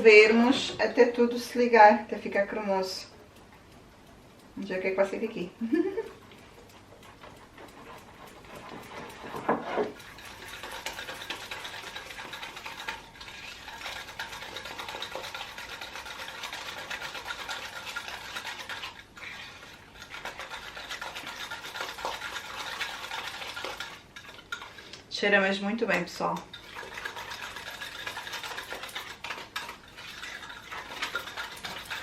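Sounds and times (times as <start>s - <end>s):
spoon stirring batter in mug: 2.2s - 32.0s.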